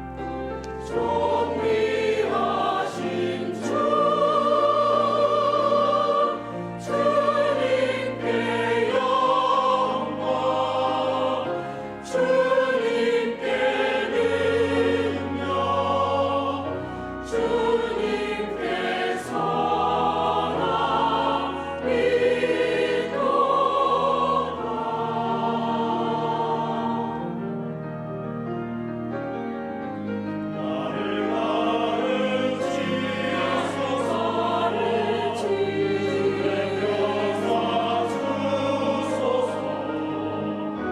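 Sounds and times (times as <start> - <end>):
church choir singing a hymn: 0.0 - 40.9.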